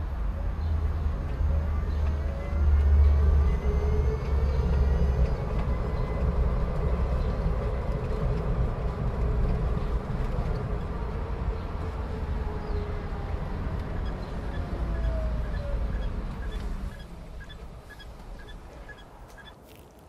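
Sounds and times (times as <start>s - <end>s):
vehicle rumbling: 0.0s - 20.0s.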